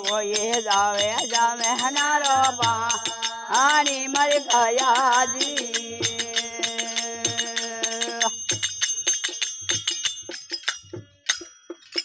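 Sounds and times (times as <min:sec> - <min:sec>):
small hand cymbals clinking: 0:00.0 - 0:12.0.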